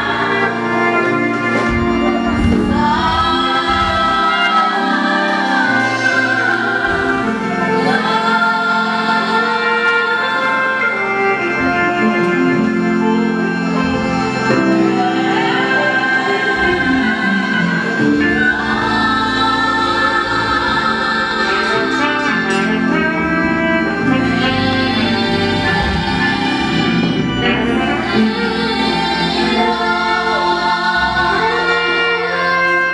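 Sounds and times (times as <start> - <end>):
choir singing a gospel hymn: 0.0 - 32.9
instrumental accompaniment: 0.0 - 32.9.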